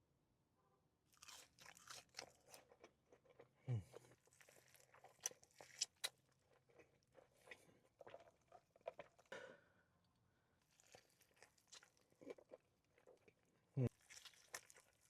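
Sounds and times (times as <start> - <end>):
person chewing and biting: 1.2 - 9.3, 10.7 - 15.0.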